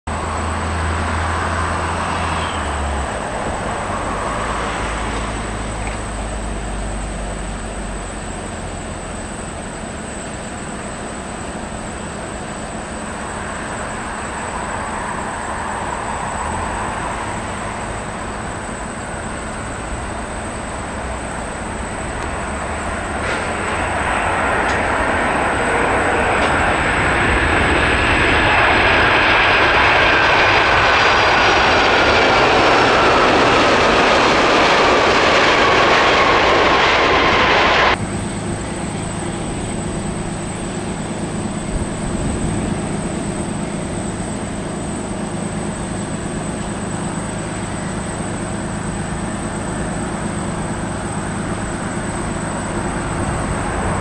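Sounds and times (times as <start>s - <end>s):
jet engines rushing: 0.1s - 54.0s.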